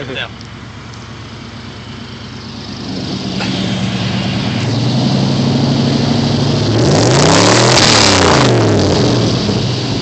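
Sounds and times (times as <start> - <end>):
car engine exhaust rumble: 0.0 - 10.0.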